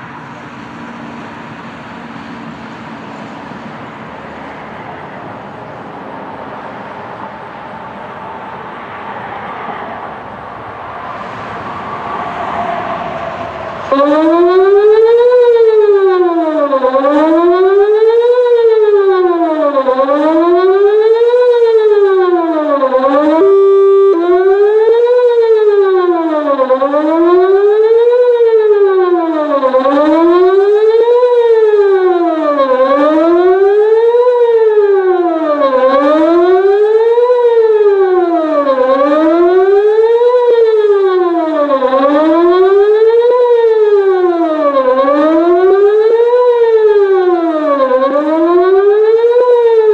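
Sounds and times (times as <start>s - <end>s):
steady siren tone: 0.0s - 49.9s
electronic siren wailing: 0.9s - 49.9s.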